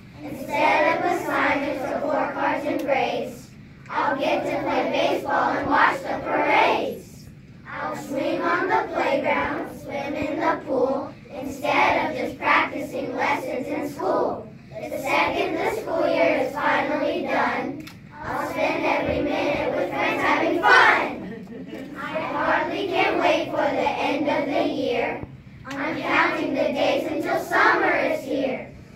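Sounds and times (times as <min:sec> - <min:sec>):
children singing in unison: 0:00.2 - 0:07.1, 0:07.7 - 0:21.2, 0:22.0 - 0:28.7.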